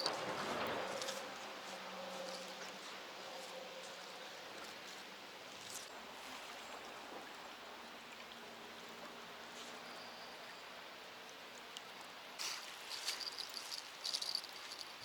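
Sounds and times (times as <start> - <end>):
even outdoor hiss: 0.0 - 15.0.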